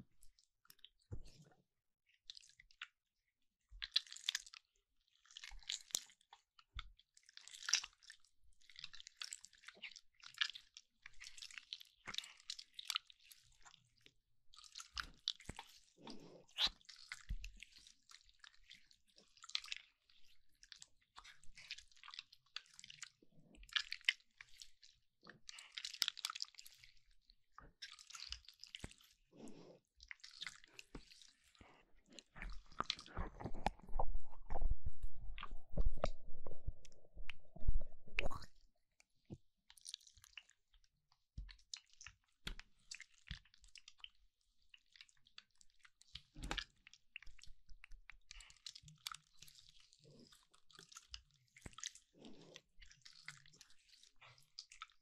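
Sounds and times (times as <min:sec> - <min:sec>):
slime squishing wet crackling: 0:03.8 - 0:34.7, 0:38.2 - 0:55.0.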